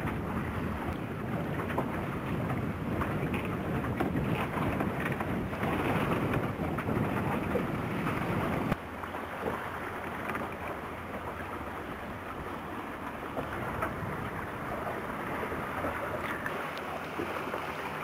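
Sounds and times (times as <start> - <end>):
wind buffeting microphone: 0.0 - 8.8, 9.4 - 18.0
rushing water: 0.0 - 18.0.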